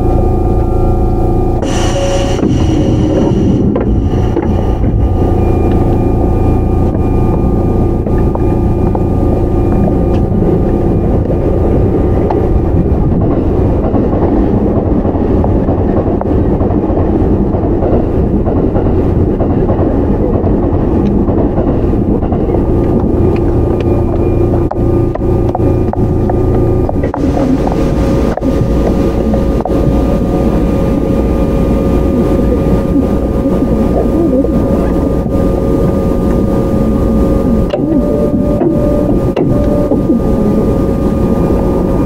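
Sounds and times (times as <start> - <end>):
constant motor whine: 0.0 - 42.0
electric train rumble: 0.0 - 42.0.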